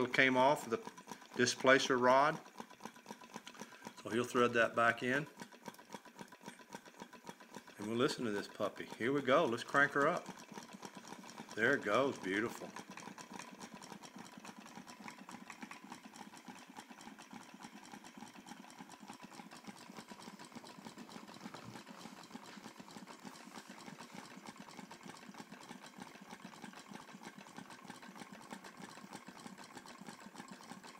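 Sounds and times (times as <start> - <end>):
rapid mechanical ticking: 0.0 - 30.9.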